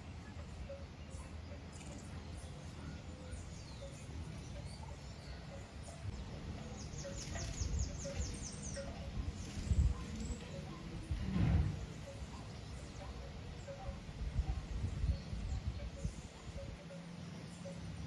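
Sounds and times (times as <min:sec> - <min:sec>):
bird singing high falling notes: 0:00.0 - 0:18.0
small birds chirping: 0:00.0 - 0:18.0
wind buffeting microphone: 0:00.0 - 0:18.0.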